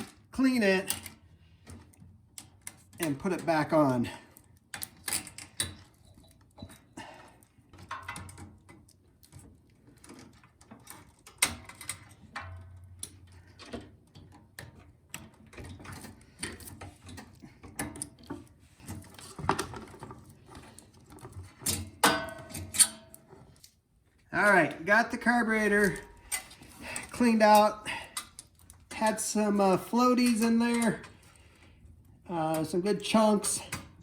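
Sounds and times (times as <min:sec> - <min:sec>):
hand tools and metal parts clinking: 0:00.0 - 0:23.8, 0:24.7 - 0:31.6.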